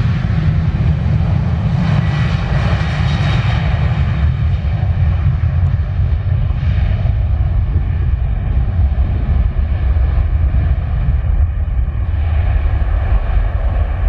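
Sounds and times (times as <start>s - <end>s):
jet engine whine: 0.0s - 14.0s
jet engines deep rumble: 0.0s - 14.0s.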